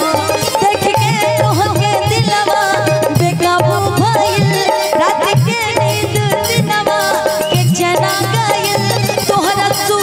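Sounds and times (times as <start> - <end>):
live band playing a song: 0.0 - 10.0.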